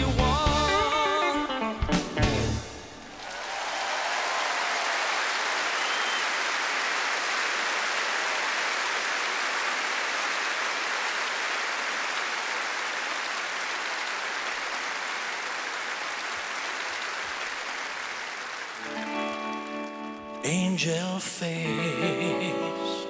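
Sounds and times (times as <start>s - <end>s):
audience applauding: 2.3s - 21.6s.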